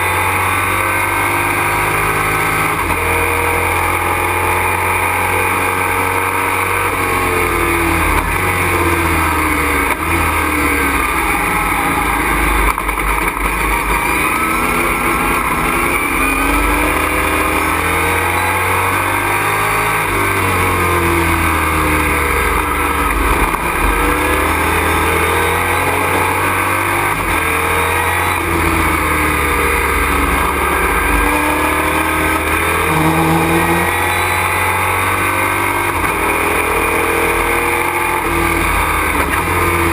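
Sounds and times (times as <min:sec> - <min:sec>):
racing truck engine: 0:00.0 - 0:39.9.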